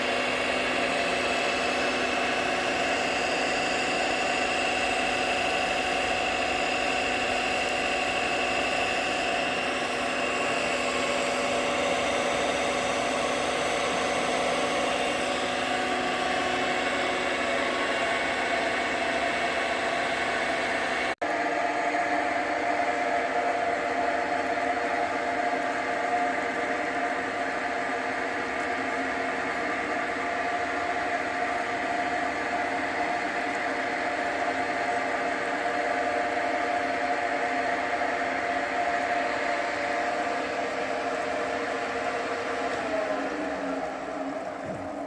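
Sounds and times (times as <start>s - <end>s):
metal lathe whirring whine: 0.0s - 45.0s.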